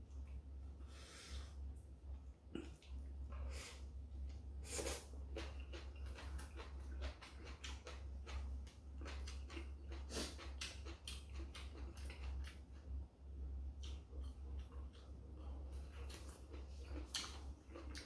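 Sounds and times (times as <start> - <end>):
steady low hum: 0.0 - 18.0
man chewing food: 2.1 - 18.0.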